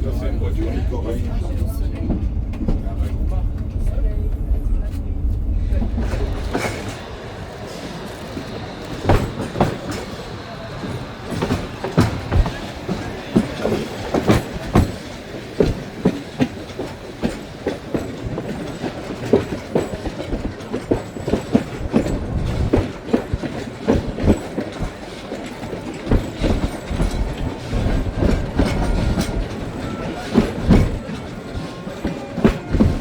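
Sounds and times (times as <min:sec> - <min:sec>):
train rumbling on rails: 0:00.0 - 0:33.0
wheels clicking over rail joints: 0:05.8 - 0:33.0.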